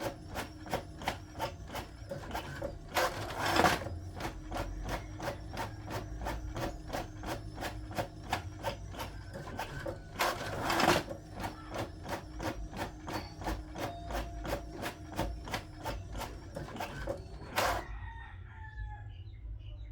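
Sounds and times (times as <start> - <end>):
printer rushing burst: 0.0 - 17.8
printer clicking: 0.0 - 17.9.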